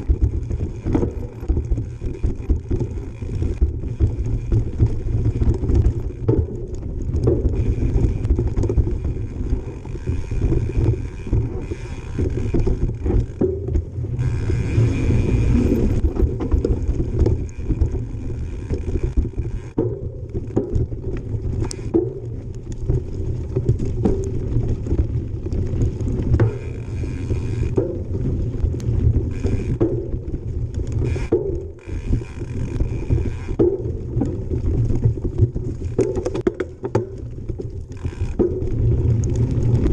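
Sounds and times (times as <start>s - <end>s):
bike knocking and rattling: 0.0s - 39.9s
bike tyres rumbling on dirt: 0.0s - 39.9s
freewheel hub ratcheting buzz: 0.0s - 39.9s
wind on microphone: 0.0s - 39.9s.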